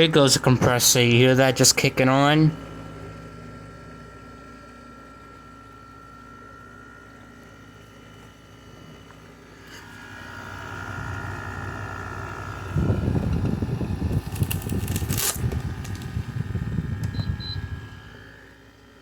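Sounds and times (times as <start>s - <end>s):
window air conditioner humming: 0.0s - 19.0s.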